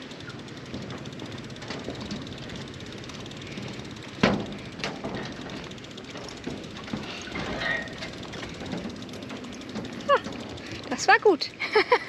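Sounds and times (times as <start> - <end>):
bicycle rumbling on footbridge: 0.0 - 12.0.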